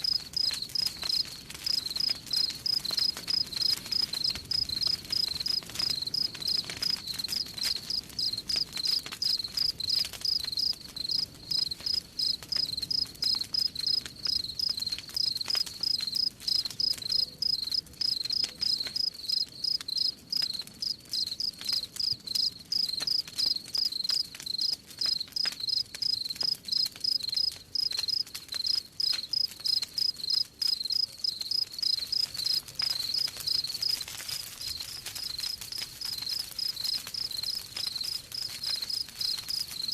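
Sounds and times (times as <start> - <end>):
crickets chirping: 0.0 - 7.4, 8.2 - 24.0, 24.6 - 34.0
campfire crackling: 0.0 - 39.9.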